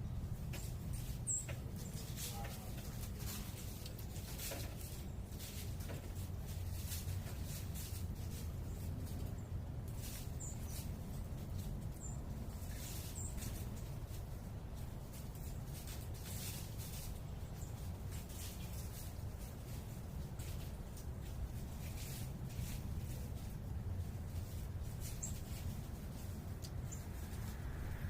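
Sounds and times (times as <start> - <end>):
low rumble of urban noise: 0.0 - 28.0.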